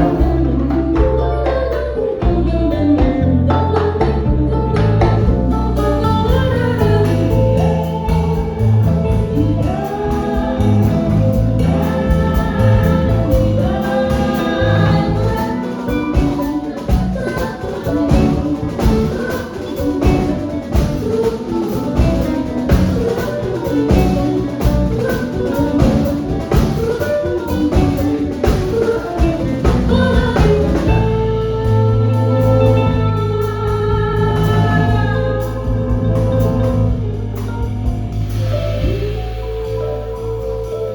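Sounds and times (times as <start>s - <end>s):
person singing: 0.0s - 37.7s
bass: 0.0s - 40.9s
drum kit: 0.0s - 40.9s
guitar: 0.0s - 40.9s
piano: 0.0s - 40.9s.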